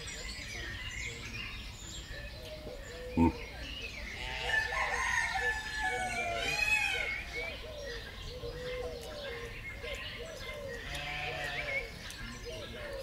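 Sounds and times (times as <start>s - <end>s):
birds calling: 0.0s - 13.0s
repeated arching bird calls: 2.2s - 13.0s.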